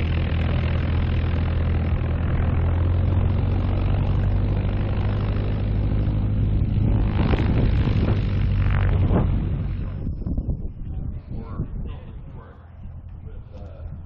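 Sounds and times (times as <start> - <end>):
propeller plane engine humming: 0.0 - 14.0.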